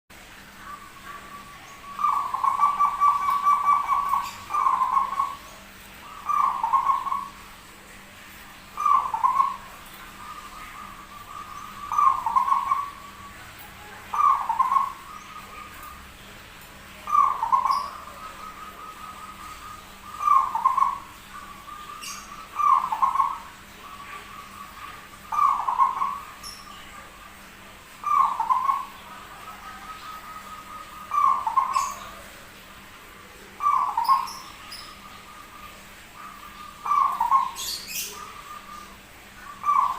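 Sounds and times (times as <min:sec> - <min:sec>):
dove cooing: 0:00.6 - 0:07.7, 0:08.8 - 0:16.2, 0:16.8 - 0:39.9.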